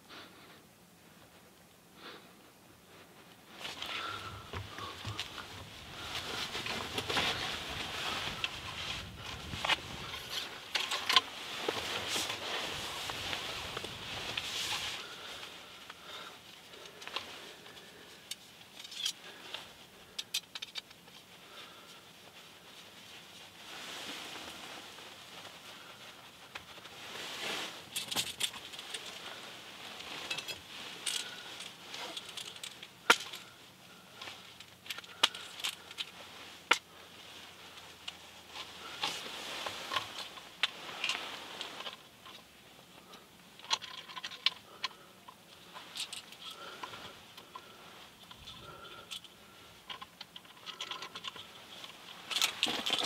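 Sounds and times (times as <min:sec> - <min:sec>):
faint steady hiss: 0:00.0 - 0:53.0
quiet rustling: 0:00.0 - 0:53.0
crunches in frozen snow: 0:03.0 - 0:53.0.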